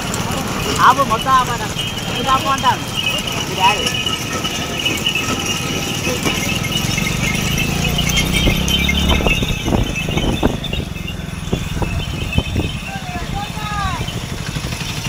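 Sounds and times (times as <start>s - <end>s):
men's voices: 0.0s - 14.8s
cart wheels rattling: 0.0s - 15.0s
hooves on paved road: 0.0s - 15.0s
vehicle engine running: 0.0s - 15.0s.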